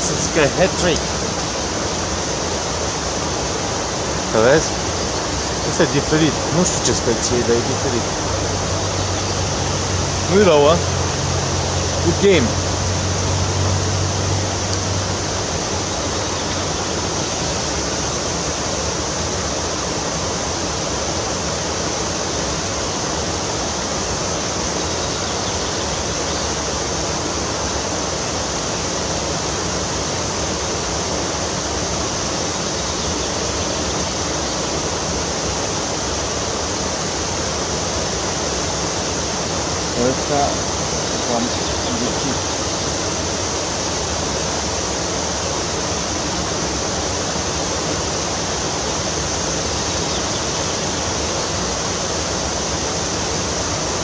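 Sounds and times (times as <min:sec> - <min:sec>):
fast-flowing stream rushing: 0:00.0 - 0:54.0.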